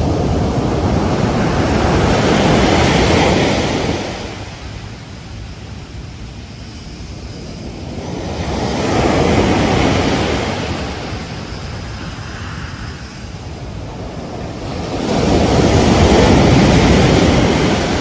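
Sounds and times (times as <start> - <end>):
ocean surf breaking: 0.0 - 5.6, 6.8 - 18.0.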